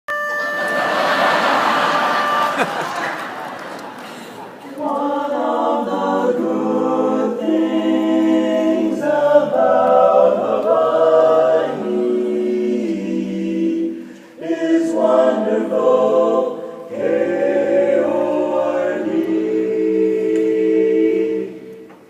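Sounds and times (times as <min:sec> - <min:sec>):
a cappella chorus singing: 0:00.5 - 0:22.0.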